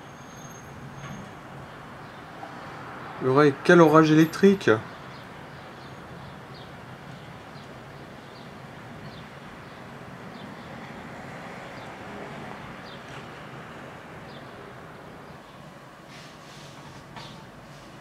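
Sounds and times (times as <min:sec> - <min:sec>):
outdoor background rumble: 0:00.0 - 0:18.0.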